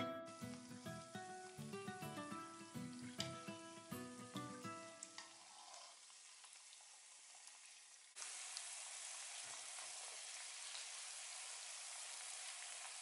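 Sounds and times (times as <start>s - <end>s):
dough sizzling in oil: 0.0s - 13.0s.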